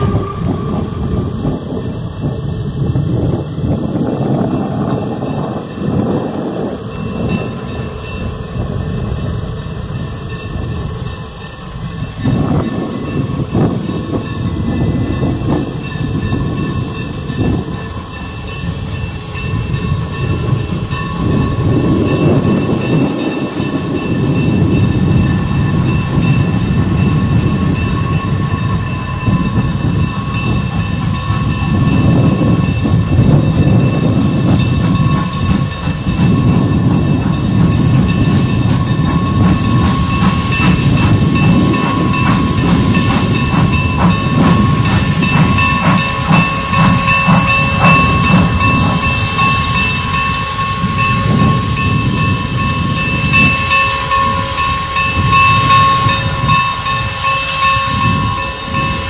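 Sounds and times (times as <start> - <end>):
steady high tones: 0.0 - 59.0
steam locomotive chuffing: 0.0 - 59.0.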